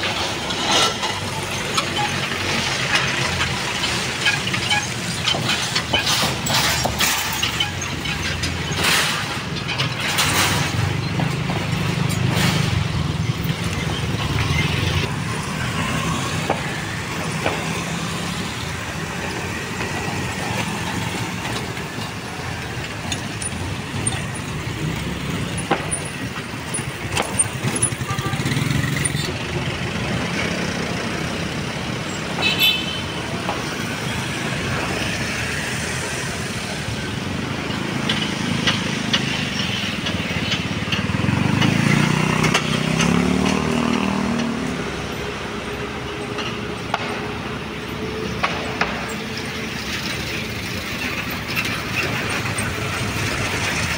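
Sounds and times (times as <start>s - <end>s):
small truck engine: 0.0s - 53.9s
vehicles passing: 0.0s - 53.9s.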